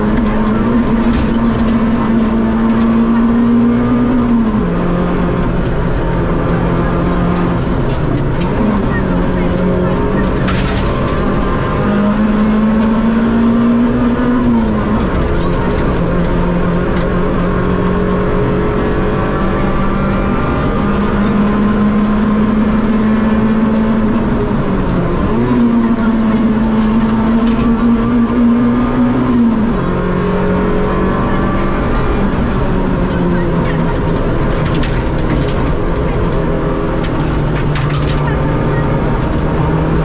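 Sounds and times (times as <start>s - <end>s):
rally car engine running hard: 0.0s - 40.0s.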